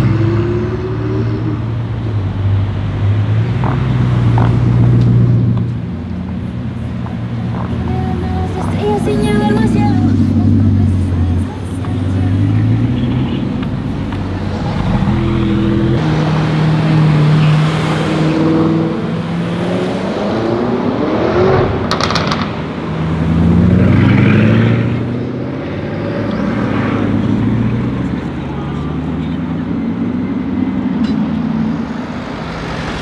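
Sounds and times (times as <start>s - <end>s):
car engines accelerating: 0.0s - 33.0s.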